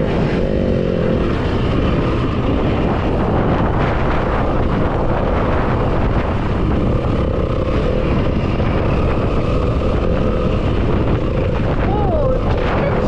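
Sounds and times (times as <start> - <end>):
dirt bike engine running: 0.0 - 13.0
wind rumbling on microphone: 0.0 - 13.0.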